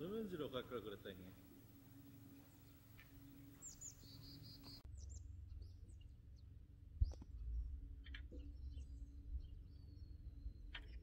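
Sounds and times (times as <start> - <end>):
small birds chirping: 0.0 - 11.0
low rumble: 1.3 - 10.8.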